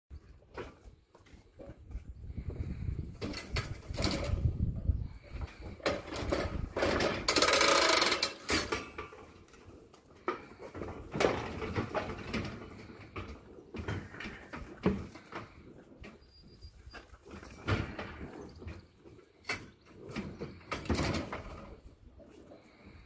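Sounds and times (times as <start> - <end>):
knocks and clunks: 1.6 - 9.5, 10.2 - 16.2, 17.3 - 21.9.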